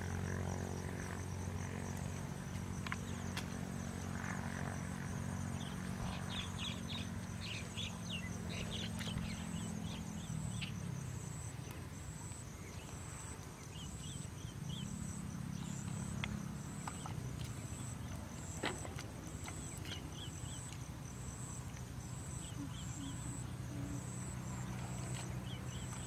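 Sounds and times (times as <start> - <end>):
insects chirring: 0.0 - 26.0
low steady hum: 0.0 - 26.0.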